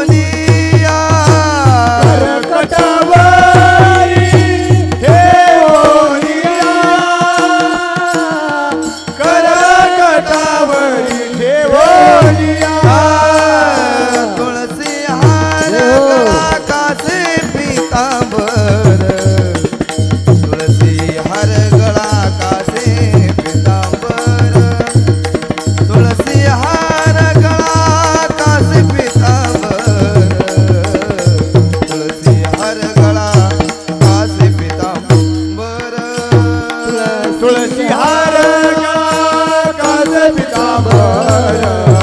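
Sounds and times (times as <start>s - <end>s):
person singing wordless lines: 0.0s - 19.7s, 25.9s - 42.0s.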